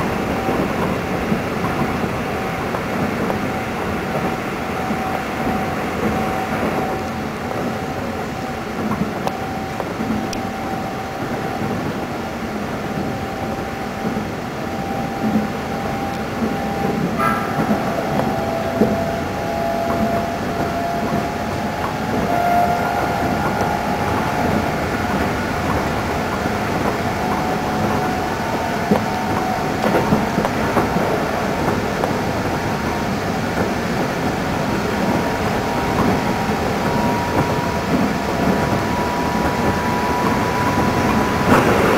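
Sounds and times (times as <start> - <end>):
train wheels rumbling on rails: 0.0 - 41.9
train motor whining: 0.4 - 41.9.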